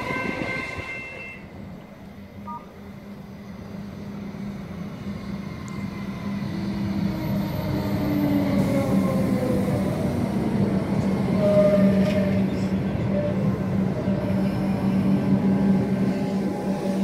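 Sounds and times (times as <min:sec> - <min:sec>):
falling whine of train: 0:00.0 - 0:17.0
low train hum: 0:00.0 - 0:17.0
train wheels rumbling on rail: 0:00.0 - 0:17.0.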